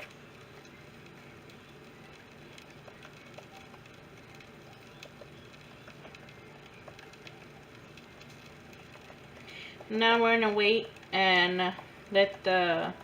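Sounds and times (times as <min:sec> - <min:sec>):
oil crackling in frying pan: 0:00.0 - 0:13.0.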